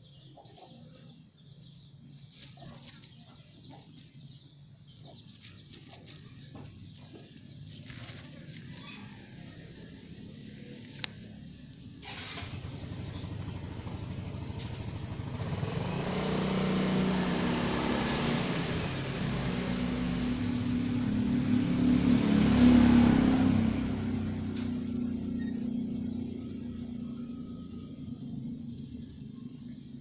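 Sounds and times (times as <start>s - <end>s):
vehicle engine passing: 0.3s - 30.0s.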